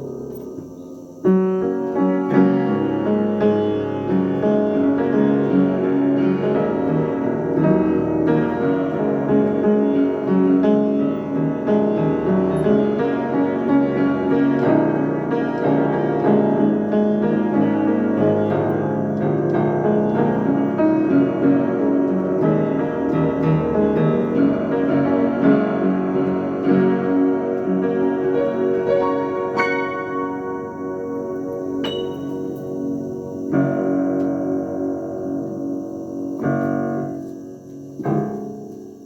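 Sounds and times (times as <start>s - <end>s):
piano piece: 0.0s - 39.0s.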